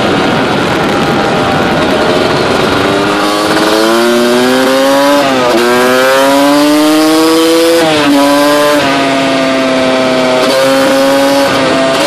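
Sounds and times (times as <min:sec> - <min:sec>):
quad engine accelerating: 0:00.0 - 0:12.0
wind on microphone: 0:00.0 - 0:12.0.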